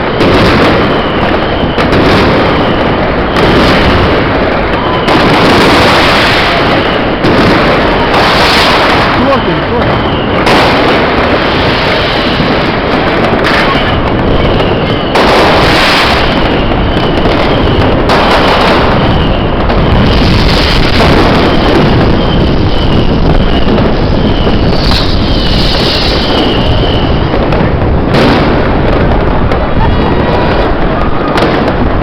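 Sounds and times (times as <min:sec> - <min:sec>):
fireworks crackling and rumbling: 0:00.0 - 0:32.0
fireworks sharp bangs: 0:00.0 - 0:32.0.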